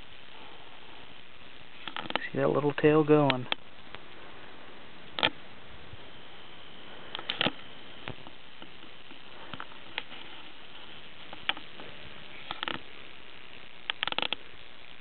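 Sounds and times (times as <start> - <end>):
rattlesnake rattle buzzing: 0.0 - 15.0.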